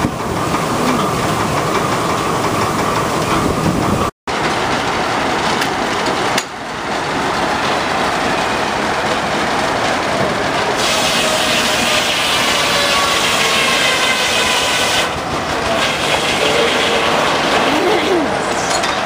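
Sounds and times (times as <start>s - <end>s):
sawmill machinery clattering: 0.0s - 19.0s.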